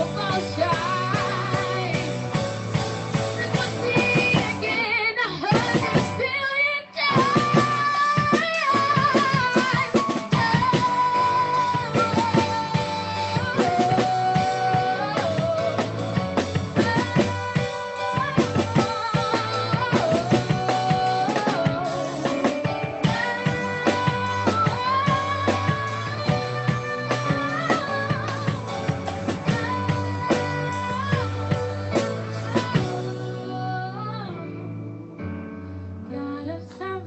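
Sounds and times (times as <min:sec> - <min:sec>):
worship band playing: 0:00.0 - 0:34.3
drums: 0:00.0 - 0:34.5
bass: 0:00.0 - 0:37.0.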